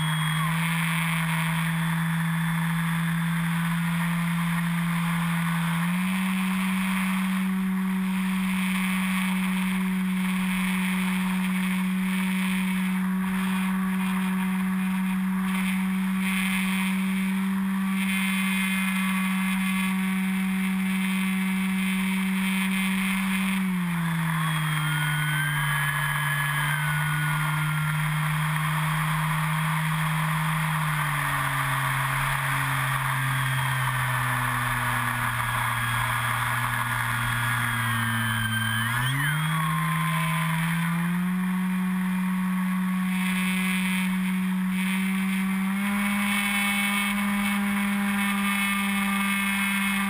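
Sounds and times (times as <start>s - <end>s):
electric motor and propeller drone: 0.0s - 50.0s
thin wavering whine: 0.0s - 50.0s.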